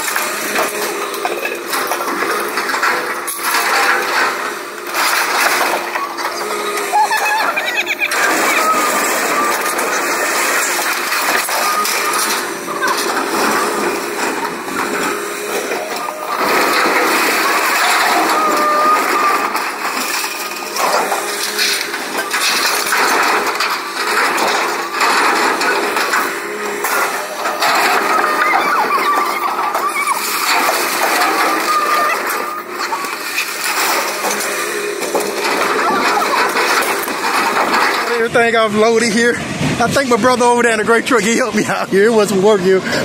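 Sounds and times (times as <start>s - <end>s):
scrap metal clattering: 0.0s - 38.3s
excavator engine hum: 0.0s - 43.0s.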